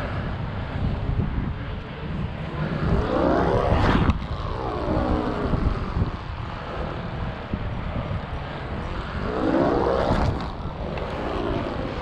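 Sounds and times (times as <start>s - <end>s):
stunt kite buzzing: 0.0s - 12.0s
wind rumble on microphone: 0.0s - 12.0s.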